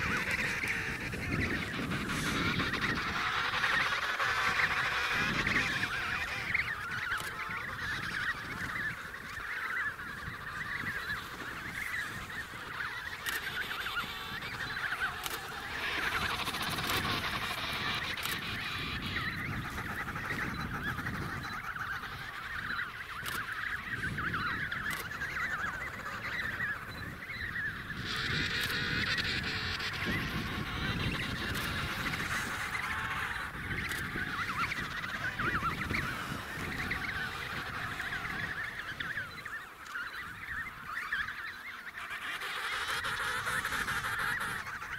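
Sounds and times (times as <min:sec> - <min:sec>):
penguin colony calling: 0:00.0 - 0:44.9.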